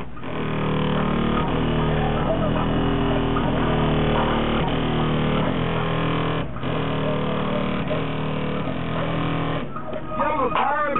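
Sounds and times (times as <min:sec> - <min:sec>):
bass-heavy music from car stereo: 0:00.0 - 0:10.9.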